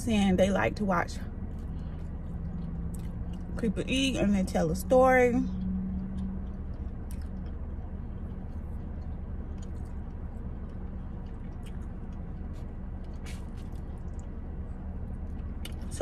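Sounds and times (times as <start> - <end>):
car interior hum: 0.0 - 16.0
person chewing food: 1.2 - 3.6, 5.5 - 15.9.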